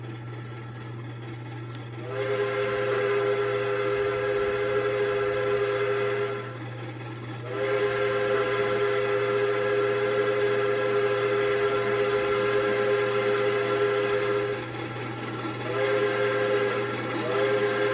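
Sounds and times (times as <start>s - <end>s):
steam locomotive whistle: 2.0s - 6.7s, 7.4s - 17.9s.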